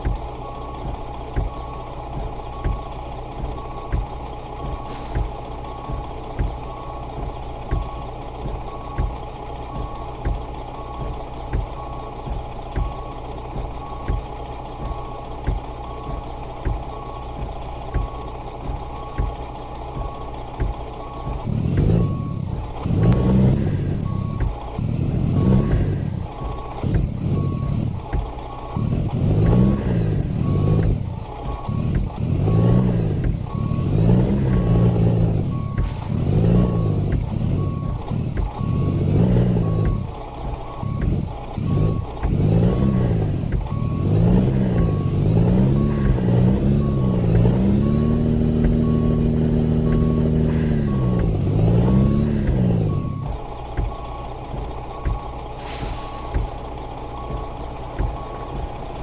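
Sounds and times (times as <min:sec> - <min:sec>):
truck engine revving: 0:00.0 - 0:59.0
reversing beeper: 0:00.1 - 0:59.0.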